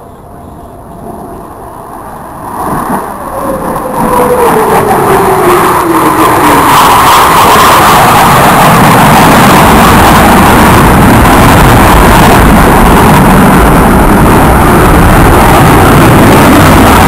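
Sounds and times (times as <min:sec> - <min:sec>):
jet flying overhead: 0:00.0 - 0:17.0.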